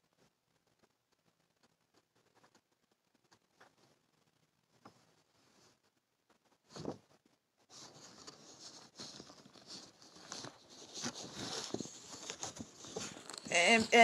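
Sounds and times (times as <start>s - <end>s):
rustling and crackling: 0.0s - 14.0s.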